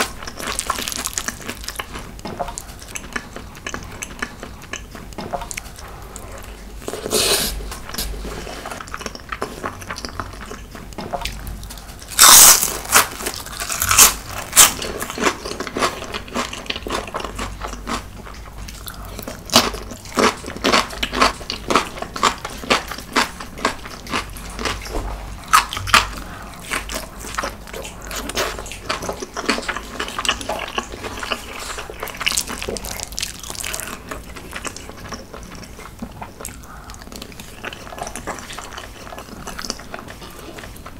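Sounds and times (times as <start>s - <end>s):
food crunching while chewed: 0.0s - 7.1s, 7.7s - 40.9s.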